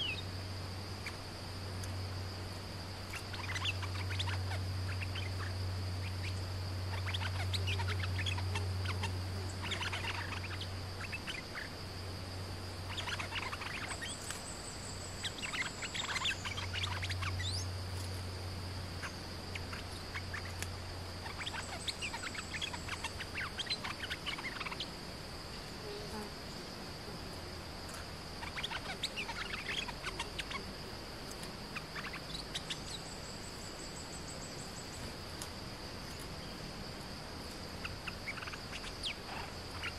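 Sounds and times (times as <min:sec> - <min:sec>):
birds chattering calls: 0:00.0 - 0:01.9, 0:02.9 - 0:26.8, 0:27.8 - 0:35.2, 0:37.7 - 0:39.9
high insect drone: 0:00.0 - 0:39.9.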